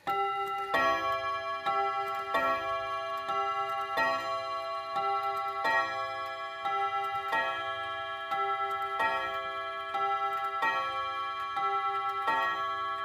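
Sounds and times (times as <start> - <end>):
clock chime rods striking: 0.0 - 13.0.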